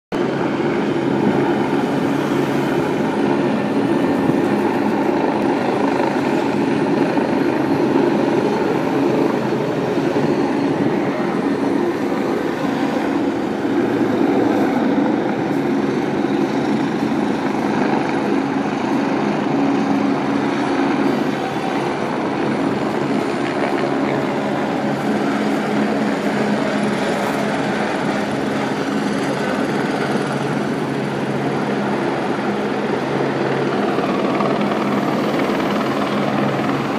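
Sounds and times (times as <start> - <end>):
helicopter rotor and engine drone: 0.1 - 36.9.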